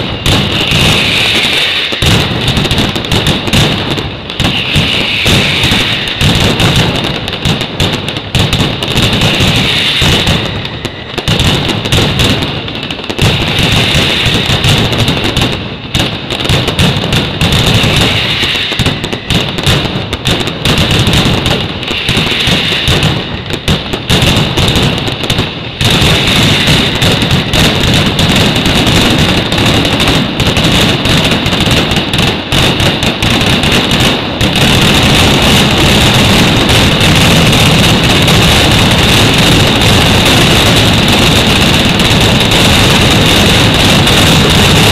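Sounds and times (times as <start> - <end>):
firecrackers exploding: 0.0 - 44.9.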